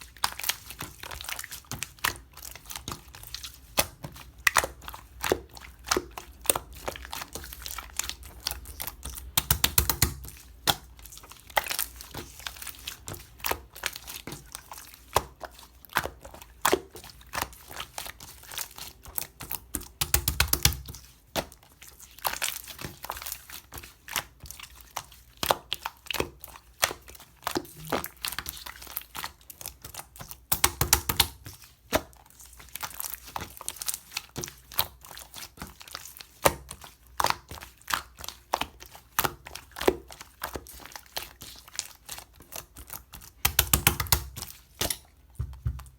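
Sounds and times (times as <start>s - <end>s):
slime squished by hand: 0.0s - 45.9s.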